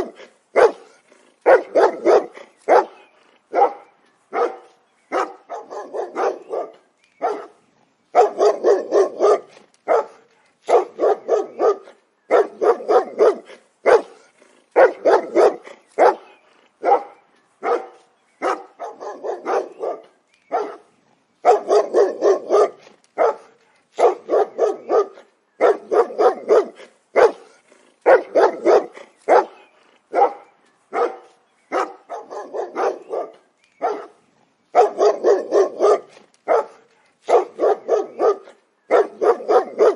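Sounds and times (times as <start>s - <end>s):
dog barking: 0.0s - 39.9s.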